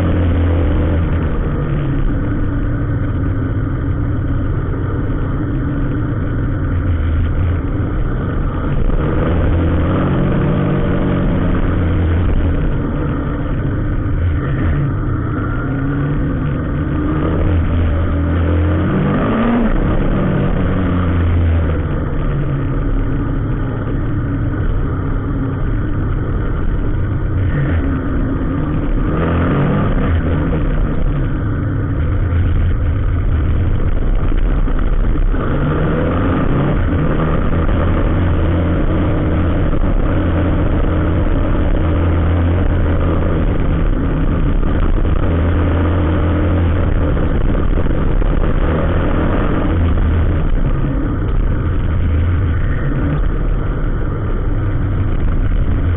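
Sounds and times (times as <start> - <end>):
road noise: 0.0 - 55.9
vehicle engine running: 0.0 - 55.9.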